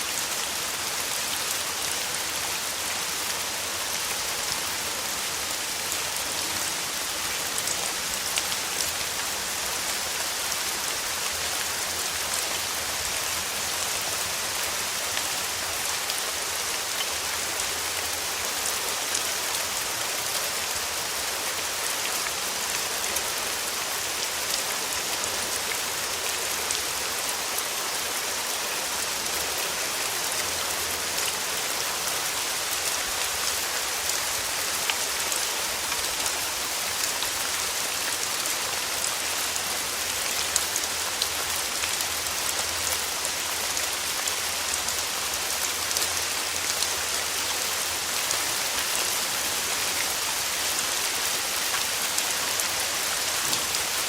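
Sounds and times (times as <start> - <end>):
rain falling on surfaces: 0.0 - 54.0.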